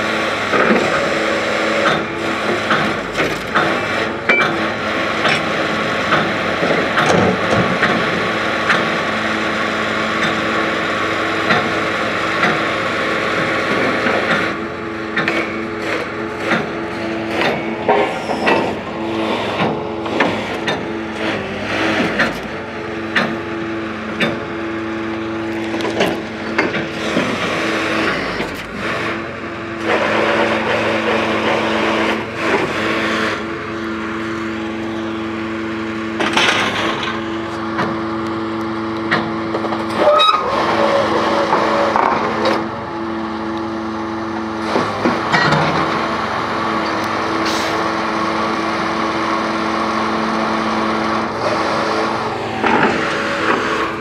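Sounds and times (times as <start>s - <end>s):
drilling rig mechanical drone: 0.0s - 54.0s.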